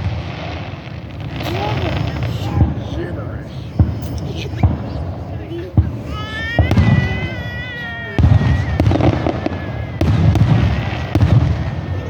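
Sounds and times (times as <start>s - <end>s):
firework whistle: 0.0s - 5.3s, 6.0s - 12.0s
firework bursts with booms: 0.0s - 12.0s.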